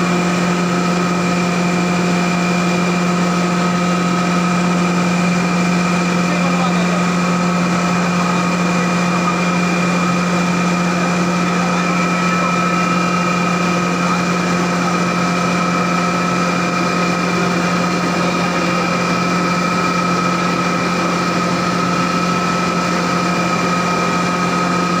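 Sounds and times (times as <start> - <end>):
grinding machine hum: 0.0 - 25.0
high machine whine: 0.0 - 25.0.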